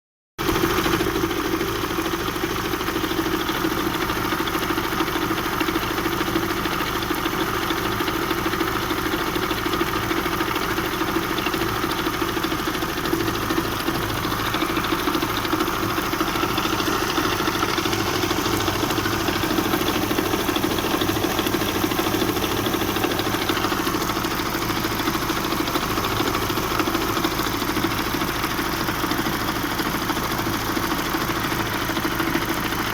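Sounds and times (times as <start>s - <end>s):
engine idling with knock: 0.4s - 32.9s.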